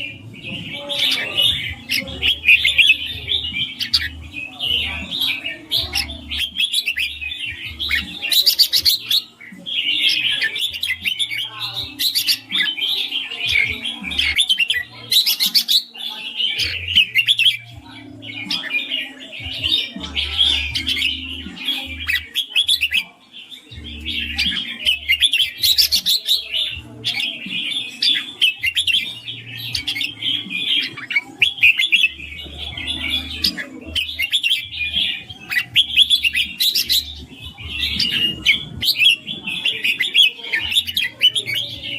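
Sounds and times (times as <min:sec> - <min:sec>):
birds singing and chirping: 0:00.0 - 0:41.9.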